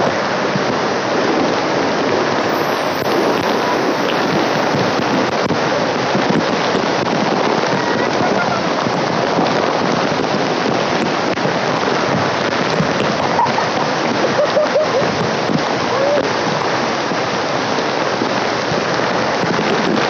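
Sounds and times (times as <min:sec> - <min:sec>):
waterfall rushing: 0:02.4 - 0:20.0.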